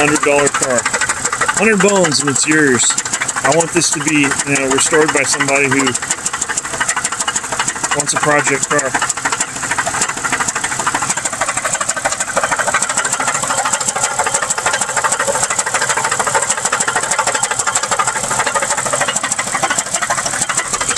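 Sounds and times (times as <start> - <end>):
car engine idling with knocking: 0.0 - 20.9.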